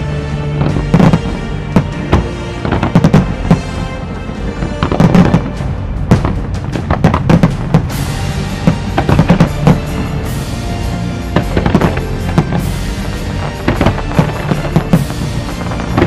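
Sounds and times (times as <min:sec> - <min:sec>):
accompanying music: 0:00.0 - 0:16.0
fireworks bursting with sharp bangs: 0:00.0 - 0:16.0.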